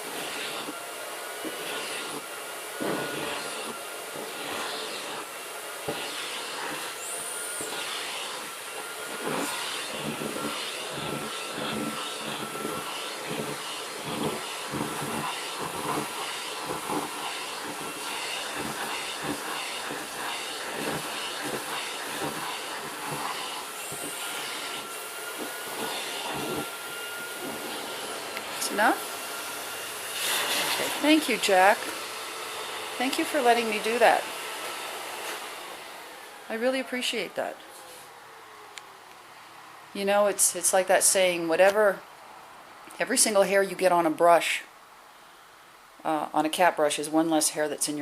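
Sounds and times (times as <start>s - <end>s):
vacuum cleaner with high whine: 0.0s - 41.8s.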